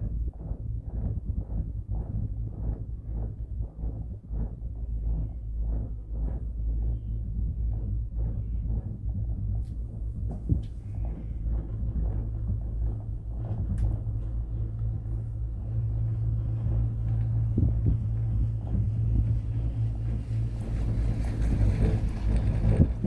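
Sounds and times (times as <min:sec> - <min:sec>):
cable car hum and rumble: 0:00.0 - 0:23.0.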